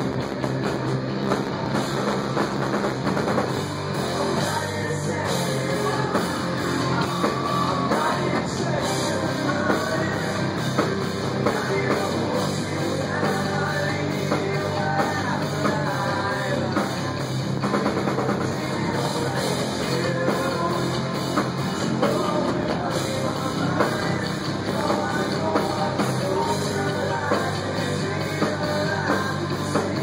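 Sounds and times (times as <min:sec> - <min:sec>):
live rock band playing: 0:00.0 - 0:30.0
person singing: 0:03.9 - 0:30.0.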